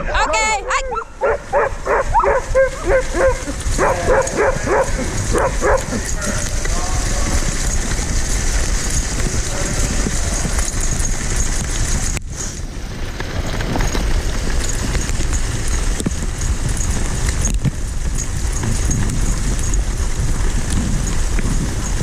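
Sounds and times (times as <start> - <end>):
sled runners on snow: 0.0 - 22.0
wind on microphone: 0.0 - 22.0
faint ticks and footfalls: 1.2 - 22.0.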